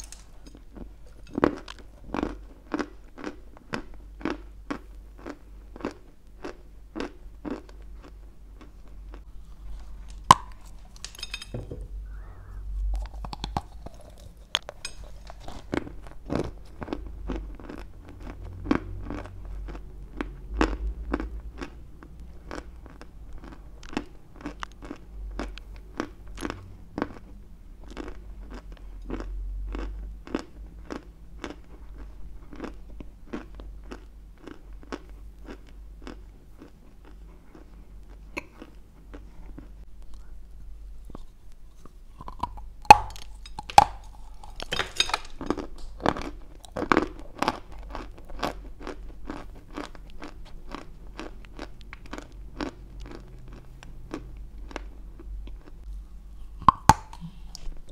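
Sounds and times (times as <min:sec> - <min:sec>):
crunchy chewing: 0:00.0 - 0:11.2, 0:12.0 - 0:40.4, 0:41.0 - 0:57.9.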